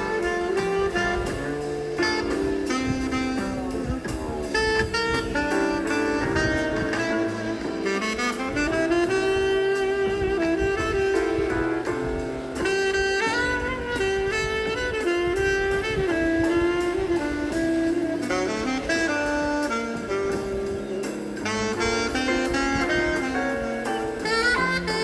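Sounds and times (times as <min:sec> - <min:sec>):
jazz accompaniment: 0:00.0 - 0:25.0
jazz saxophone melody: 0:00.0 - 0:25.0.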